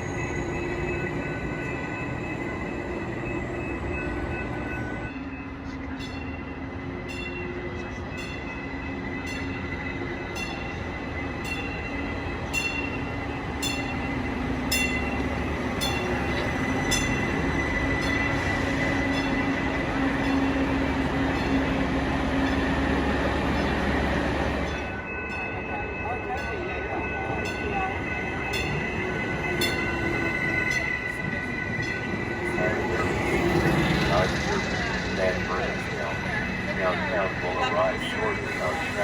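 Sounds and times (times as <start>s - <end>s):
train rumbling by: 0.0s - 39.0s.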